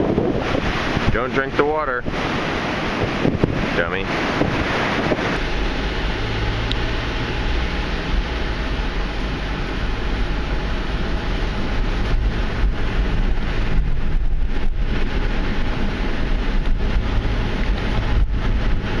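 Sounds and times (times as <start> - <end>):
car driving slowly on sand: 0.0 - 19.0
wind buffeting microphone: 0.0 - 19.0.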